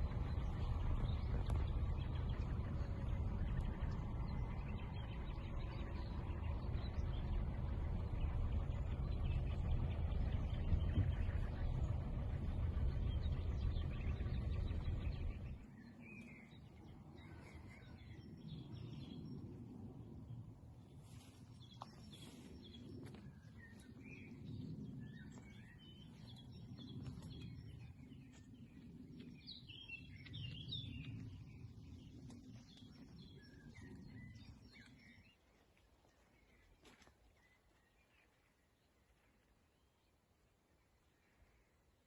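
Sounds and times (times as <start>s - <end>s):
small birds chirping: 0.0s - 19.9s, 20.9s - 42.0s
low uneven rumble: 0.0s - 42.0s.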